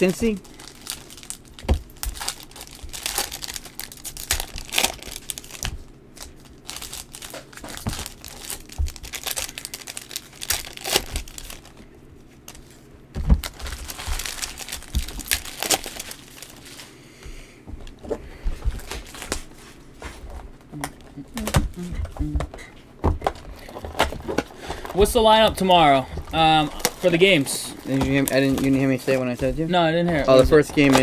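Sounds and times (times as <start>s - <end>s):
foil wrappers crinkling and tearing: 0.0s - 17.0s, 18.7s - 19.6s, 23.3s - 31.0s.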